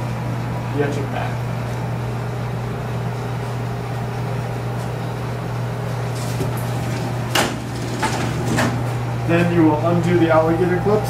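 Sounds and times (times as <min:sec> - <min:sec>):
low ventilation hum: 0:00.0 - 0:11.0.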